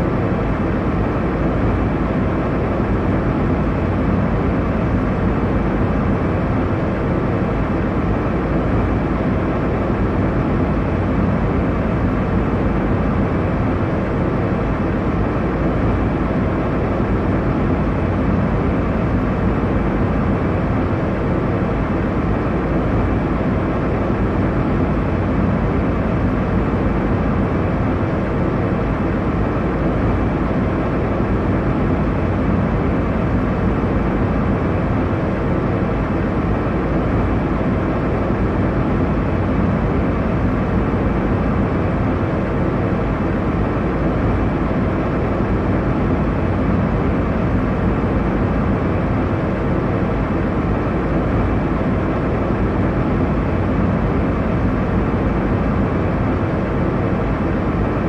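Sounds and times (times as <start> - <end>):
airliner cabin engine and airflow rush: 0.0 - 58.0.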